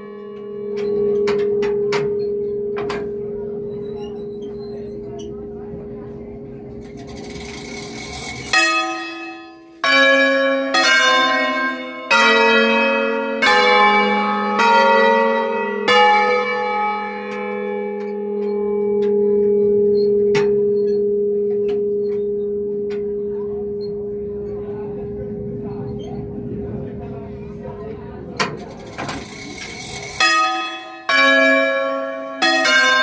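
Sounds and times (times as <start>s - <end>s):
church bells struck: 0.0s - 33.0s
deep bell hum ringing: 0.0s - 33.0s.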